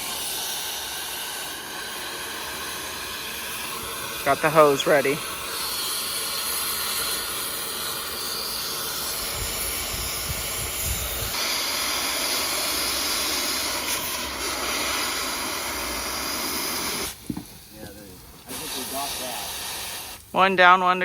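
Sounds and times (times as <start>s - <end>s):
cutting torch hissing: 0.0s - 21.0s.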